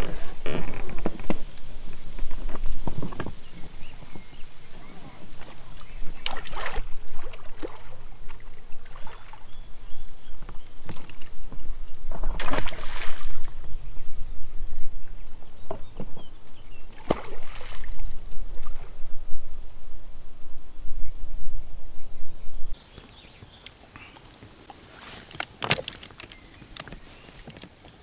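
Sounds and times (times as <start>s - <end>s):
oars splashing water: 0.0s - 20.3s, 23.4s - 28.0s.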